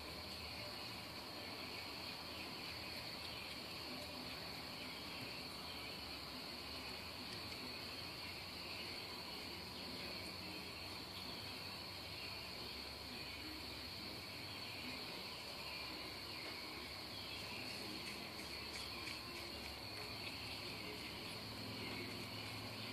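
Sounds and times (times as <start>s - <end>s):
crickets chirping: 0.0s - 22.9s.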